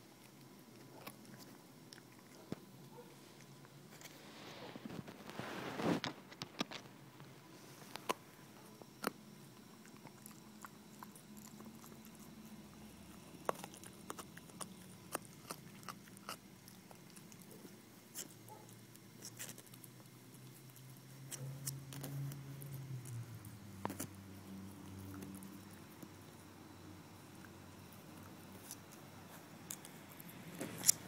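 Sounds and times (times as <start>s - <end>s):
dog gnawing a chew: 0.0s - 6.9s, 7.7s - 31.0s.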